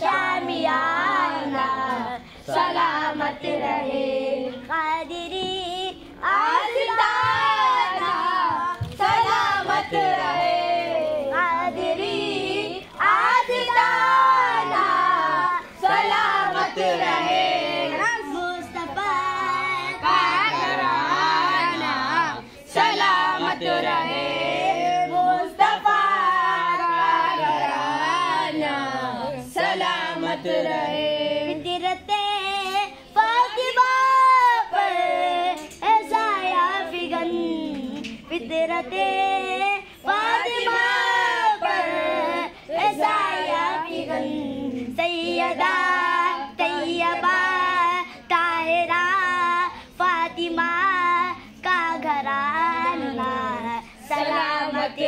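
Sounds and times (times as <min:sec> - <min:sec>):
boys singing a chant: 0:00.0 - 0:55.0.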